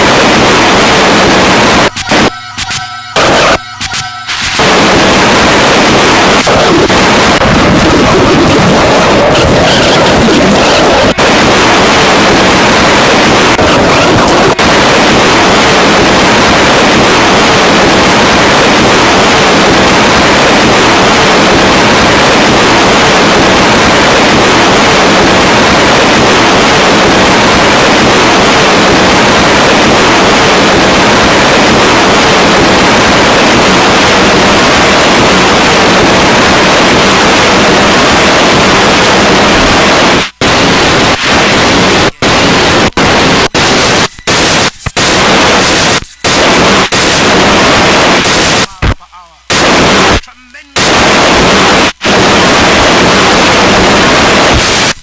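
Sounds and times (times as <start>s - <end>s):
harsh static-like noise: 0.0s - 55.0s.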